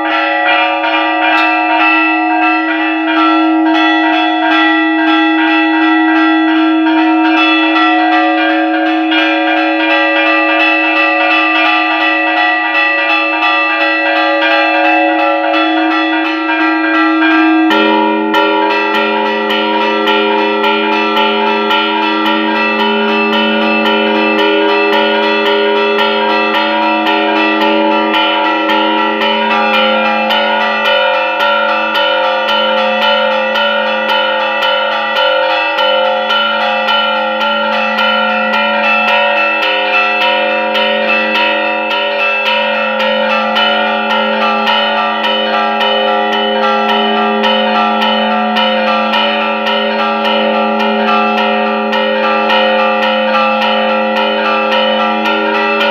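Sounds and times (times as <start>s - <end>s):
church bells ringing fast: 0.0s - 55.9s.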